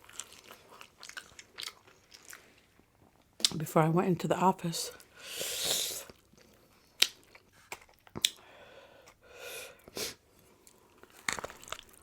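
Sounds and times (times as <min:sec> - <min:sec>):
person chewing food: 0:00.0 - 0:03.6, 0:05.0 - 0:09.2, 0:09.8 - 0:12.0.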